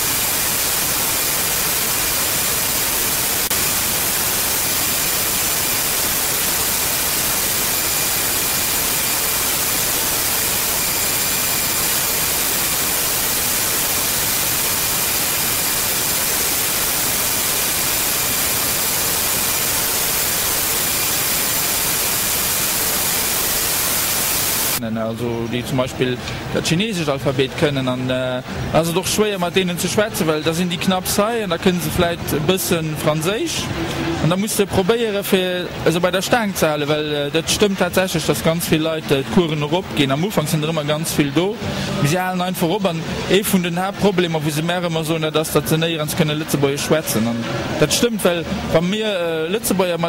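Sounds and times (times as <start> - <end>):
video static hiss: 0.0 - 50.0.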